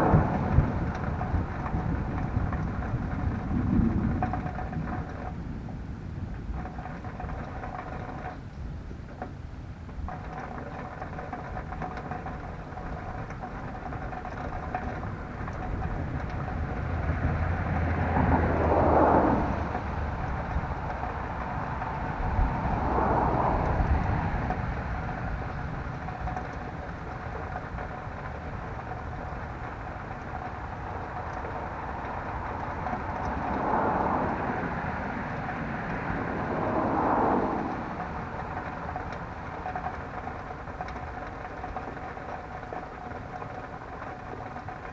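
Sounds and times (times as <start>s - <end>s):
vehicles passing by: 0.0s - 44.9s.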